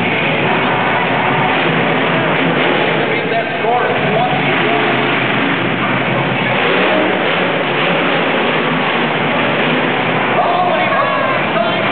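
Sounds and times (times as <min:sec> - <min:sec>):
truck engine revving: 0:00.0 - 0:11.9.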